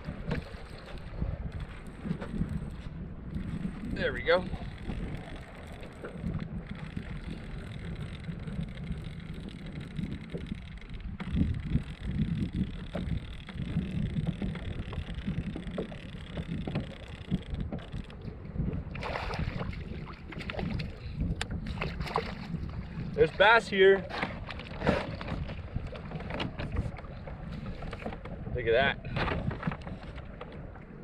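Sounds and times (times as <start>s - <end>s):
water sloshing against kayak hull: 0.0s - 31.0s
wind buffeting microphone: 0.0s - 31.0s.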